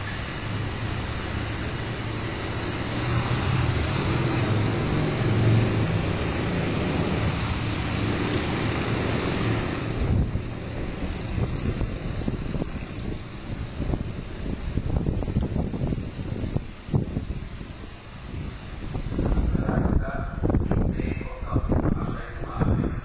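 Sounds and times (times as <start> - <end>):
train rumbling over tracks: 0.0 - 23.0.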